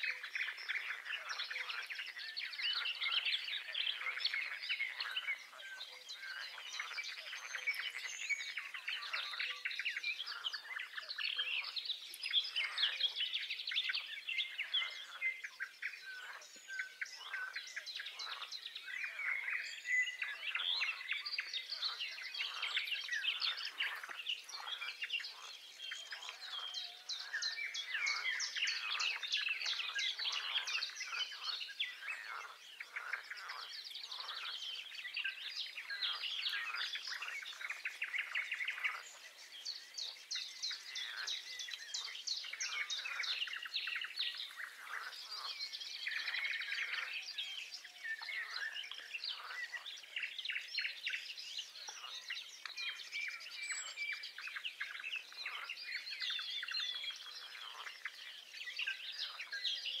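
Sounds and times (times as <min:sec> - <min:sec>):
songbirds singing: 0:00.0 - 1:00.0.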